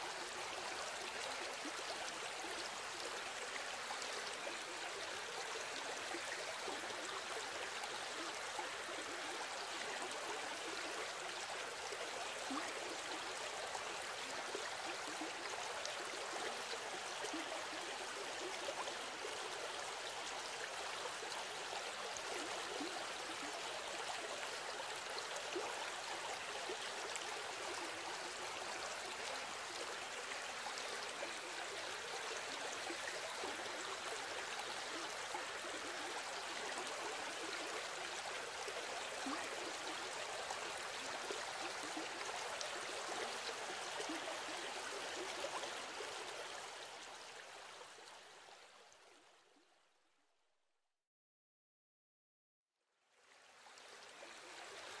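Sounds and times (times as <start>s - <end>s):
flowing water: 0.0s - 49.6s, 53.1s - 55.0s.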